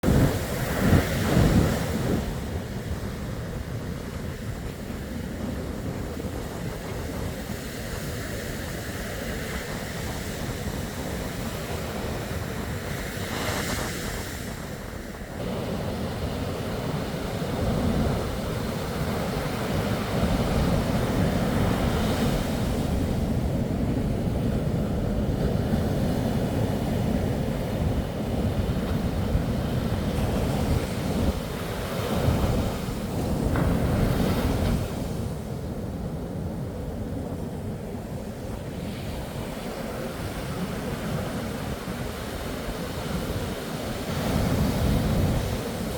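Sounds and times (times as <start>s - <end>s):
sea waves washing onto shore: 0.0s - 45.9s
wind rumbling on microphone: 0.0s - 45.9s.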